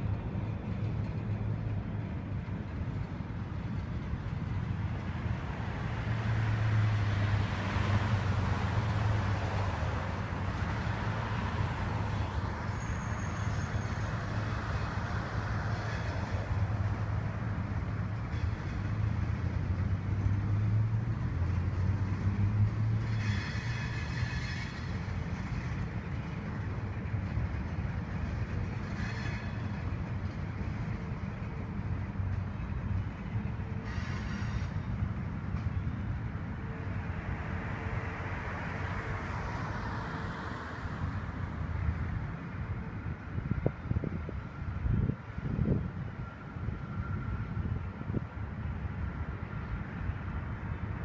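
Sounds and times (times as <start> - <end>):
freight cars rumbling past: 0.0 - 51.0.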